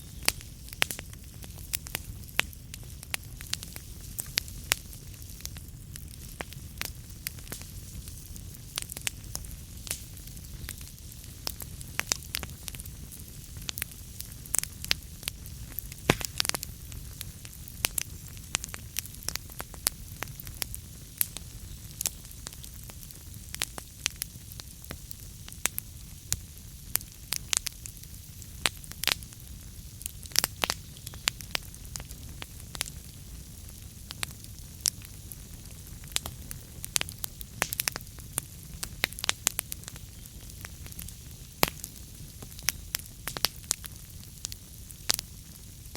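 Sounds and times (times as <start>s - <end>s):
logs crackling and popping: 0.0s - 45.9s
low rumble of flames: 0.0s - 45.9s.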